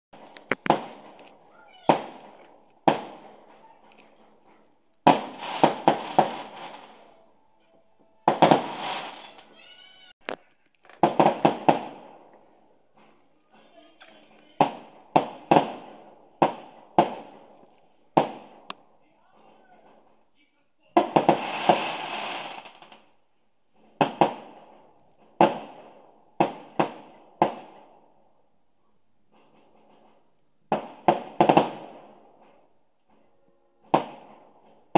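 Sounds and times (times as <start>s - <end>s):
fireworks bangs: 0.2s - 7.2s, 8.2s - 10.2s, 10.9s - 20.2s, 20.8s - 28.2s, 29.3s - 33.2s, 33.8s - 34.9s.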